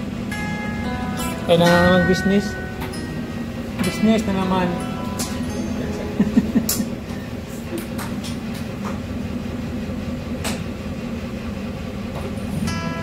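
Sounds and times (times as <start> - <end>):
ship engine drone: 0.0 - 13.0.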